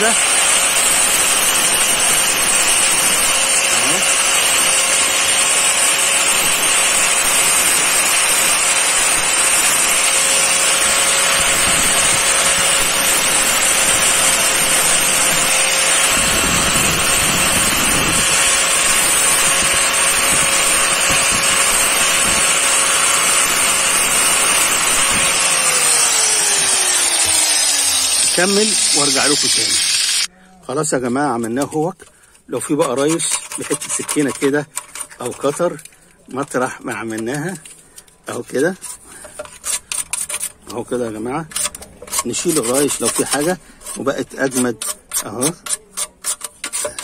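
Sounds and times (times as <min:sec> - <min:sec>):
power sander sanding plastic: 0:00.0 - 0:30.3, 0:36.4 - 0:47.0.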